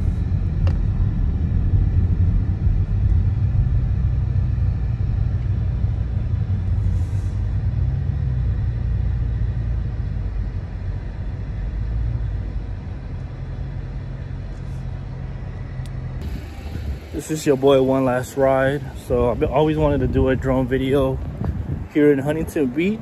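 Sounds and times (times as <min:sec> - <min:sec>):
car engine low rumble: 0:00.0 - 0:23.0.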